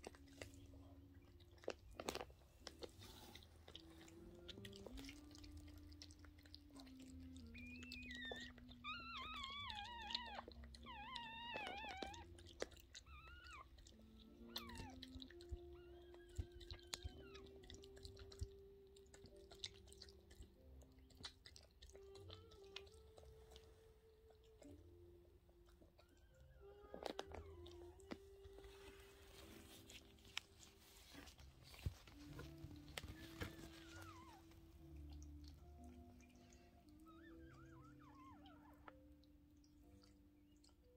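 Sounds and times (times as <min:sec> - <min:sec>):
wet smacking and licking: 0:00.0 - 0:25.0, 0:25.6 - 0:40.9
dog whining: 0:02.8 - 0:19.6, 0:21.9 - 0:40.0.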